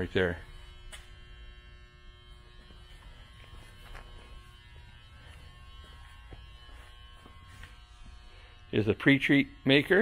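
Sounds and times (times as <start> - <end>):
low hum with electrical buzz: 0.0 - 10.0.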